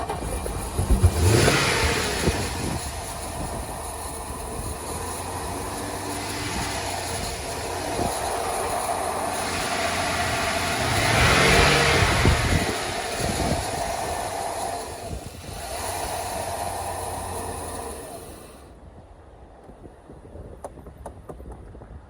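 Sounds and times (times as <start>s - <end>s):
car engine idling and revving: 0.0s - 18.8s.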